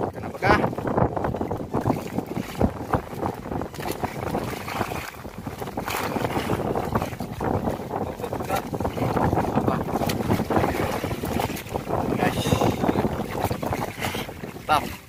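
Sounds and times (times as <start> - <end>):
seawater splashing against hull: 0.0 - 15.0
wind buffeting microphone: 0.0 - 15.0.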